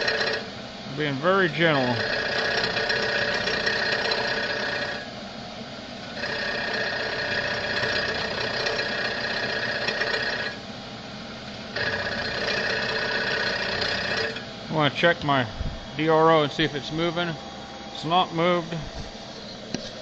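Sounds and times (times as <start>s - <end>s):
machine hum: 0.0s - 20.0s
milling machine whine: 0.0s - 20.0s.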